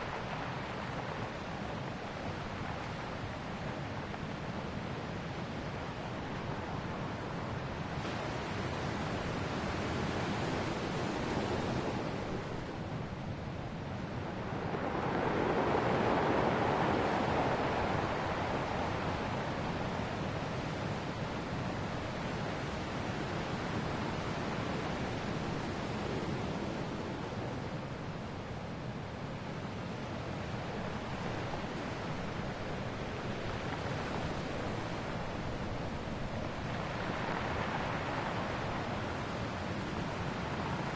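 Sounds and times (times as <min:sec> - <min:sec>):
waves washing on shore: 0:00.0 - 0:40.9.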